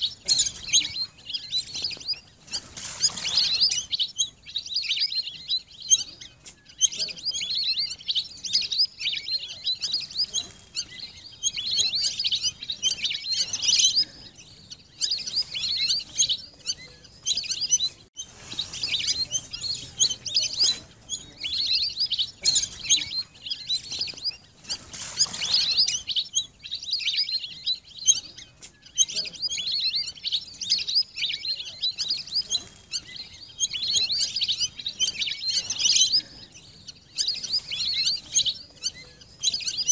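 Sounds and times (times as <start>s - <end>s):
whistling ducks calling: 0.0s - 39.9s.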